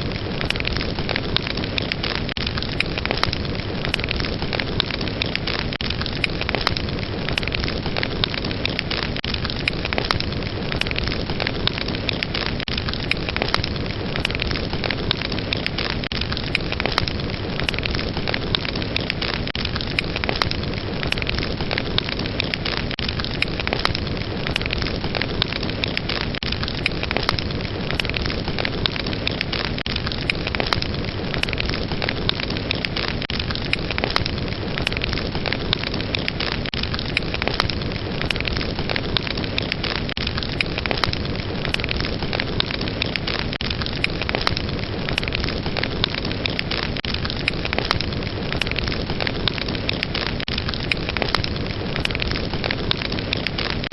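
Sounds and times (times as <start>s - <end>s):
fire crackling and popping: 0.0s - 53.9s.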